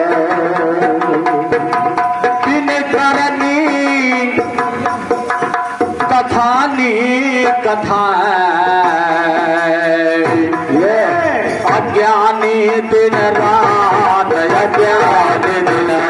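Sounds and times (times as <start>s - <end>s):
man singing: 0.0s - 5.0s, 6.0s - 16.0s
hand drum: 0.0s - 16.0s.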